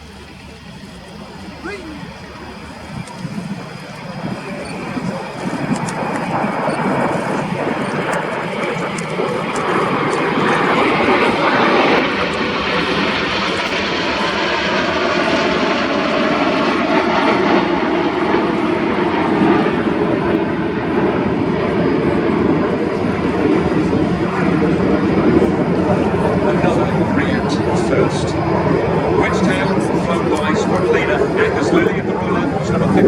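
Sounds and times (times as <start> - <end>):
jet engines rushing past: 0.0 - 33.0.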